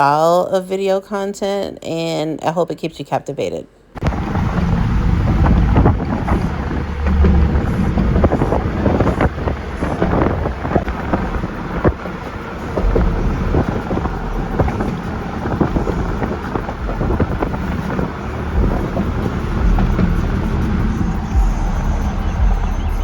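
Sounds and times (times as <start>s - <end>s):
car road noise with low rumble: 4.0s - 23.0s.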